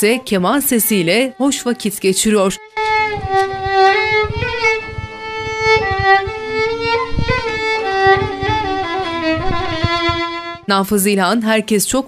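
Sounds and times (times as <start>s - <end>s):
solo violin slow melody: 0.2s - 10.7s.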